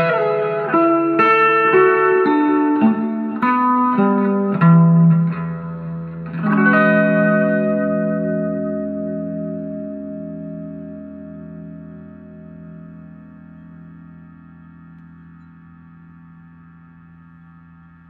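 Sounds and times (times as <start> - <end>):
guitar music with reverb: 0.0 - 18.0.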